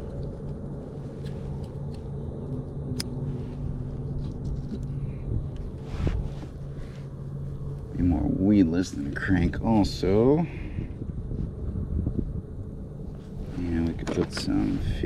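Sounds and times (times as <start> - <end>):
faint humming drone: 0.0 - 15.0
low rumble: 0.0 - 15.0.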